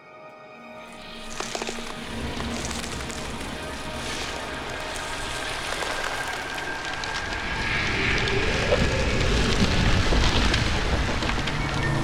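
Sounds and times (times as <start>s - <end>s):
crackling hiss of ice: 0.8s - 12.0s.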